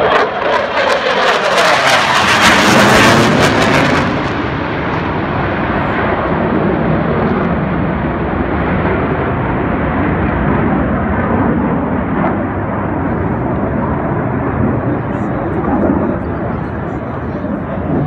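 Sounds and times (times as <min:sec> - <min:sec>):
jet passing overhead: 0:00.0 - 0:18.0.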